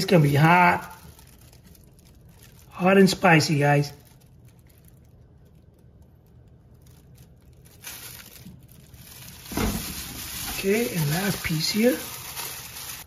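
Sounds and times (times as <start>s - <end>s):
plastic glove crinkling: 0.0s - 13.0s.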